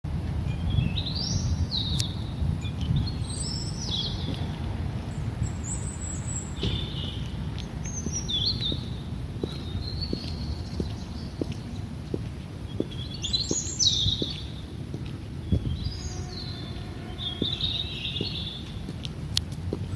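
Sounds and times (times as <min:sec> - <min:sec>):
steady low rumble: 0:00.1 - 0:19.9
songbirds chirping: 0:00.2 - 0:19.9.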